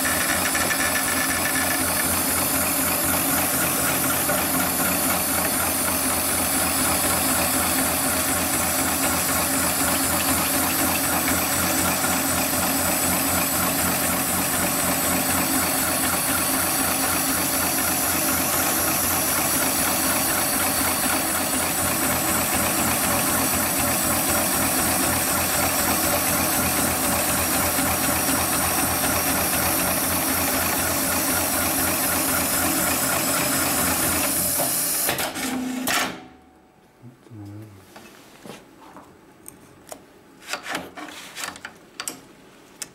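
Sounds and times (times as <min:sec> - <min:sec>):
sewing machine stitching: 0:00.0 - 0:35.8.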